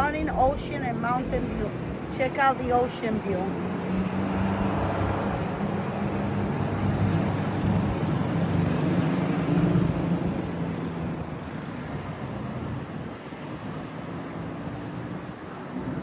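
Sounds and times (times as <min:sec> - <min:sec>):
traffic: 0:00.0 - 0:16.0.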